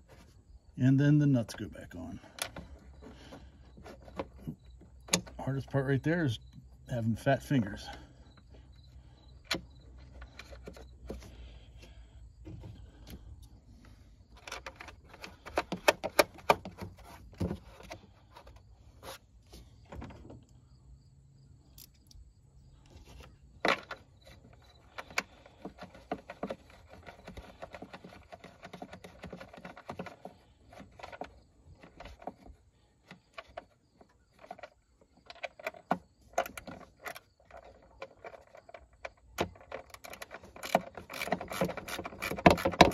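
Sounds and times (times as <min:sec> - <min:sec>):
clicks and metallic rattles: 0:01.3 - 0:18.6, 0:21.6 - 0:42.9.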